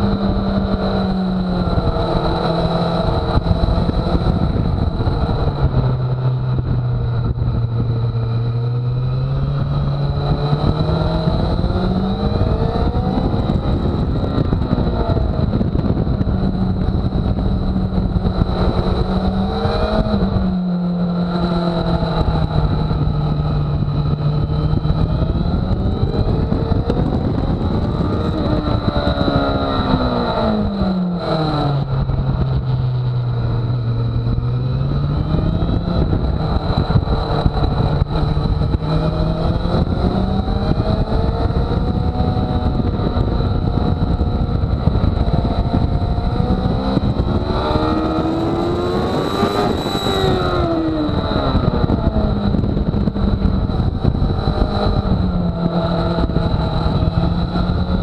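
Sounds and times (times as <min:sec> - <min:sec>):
motorcycle engine revving: 0:00.0 - 0:58.0
rushing wind noise: 0:00.0 - 0:58.0.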